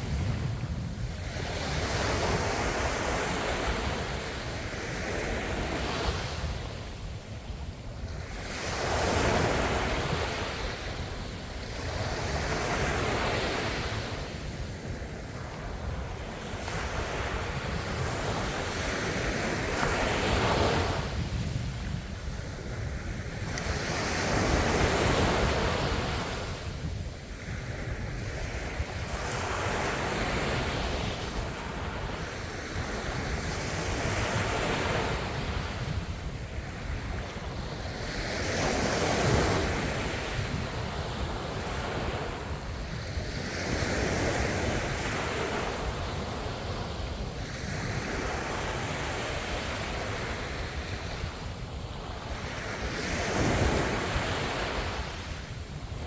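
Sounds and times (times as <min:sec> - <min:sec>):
wind on microphone: 0:00.0 - 0:56.0.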